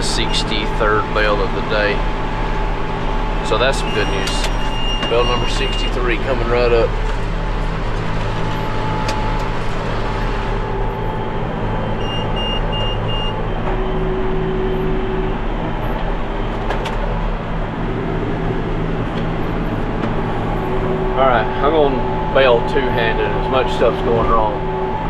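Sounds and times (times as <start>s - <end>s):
alarm beeping: 0.0s - 17.2s, 18.0s - 25.0s
round baler working: 0.0s - 25.0s
tractor running: 0.0s - 25.0s.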